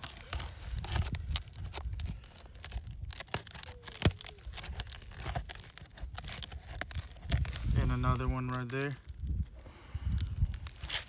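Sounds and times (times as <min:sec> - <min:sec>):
shingles crackling and tearing: 0:00.0 - 0:11.0.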